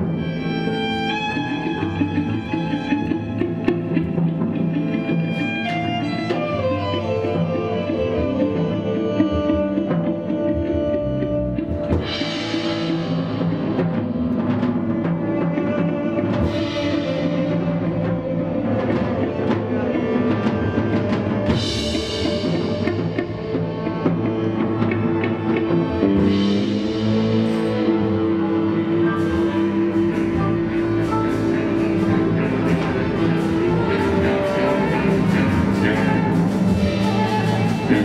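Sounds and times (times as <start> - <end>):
sustained orchestral instruments: 0.0 - 38.0.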